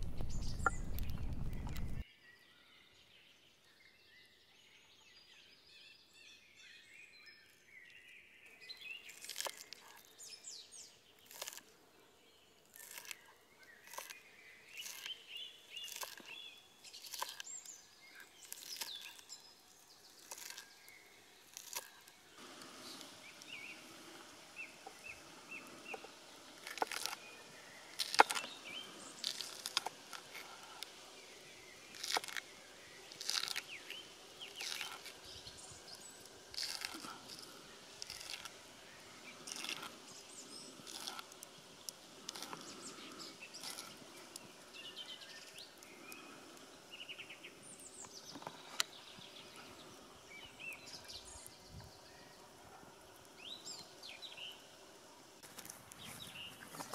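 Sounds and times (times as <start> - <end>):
faint birds chirping: 0.0 - 56.9.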